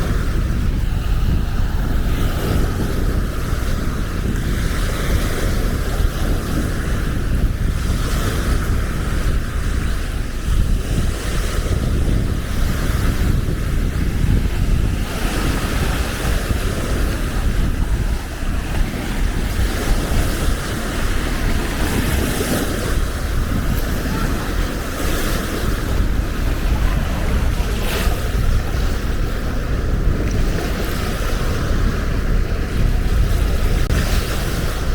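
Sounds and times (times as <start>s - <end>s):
small waves washing on beach: 0.0s - 34.9s
wind buffeting microphone: 0.0s - 34.9s.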